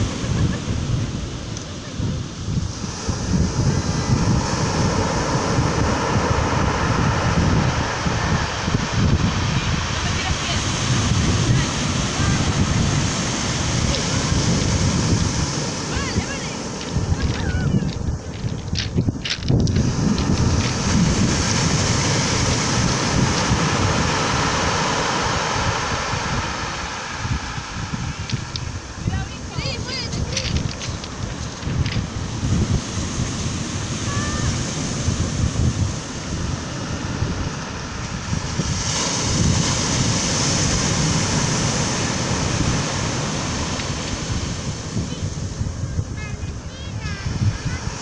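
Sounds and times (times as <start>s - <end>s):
surf washing over pebble beach: 0.0s - 48.0s
wind buffeting microphone: 0.0s - 48.0s.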